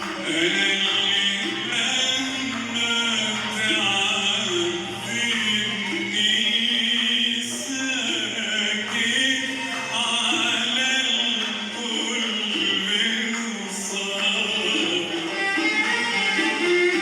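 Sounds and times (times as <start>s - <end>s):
arabic music ensemble: 0.0s - 17.0s.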